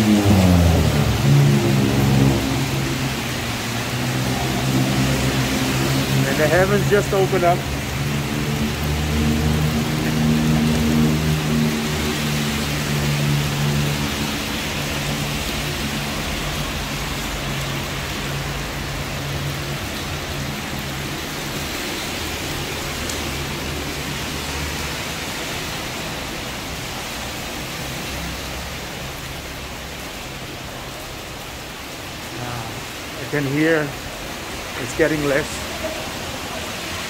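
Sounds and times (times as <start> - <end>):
heavy rain hissing: 0.0 - 37.0
traffic engine hum: 0.0 - 37.0.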